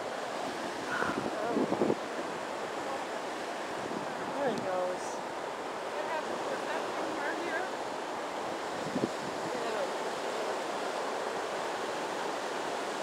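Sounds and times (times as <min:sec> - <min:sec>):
ocean surf washing on beach: 0:00.0 - 0:13.0
wind on microphone: 0:00.0 - 0:13.0.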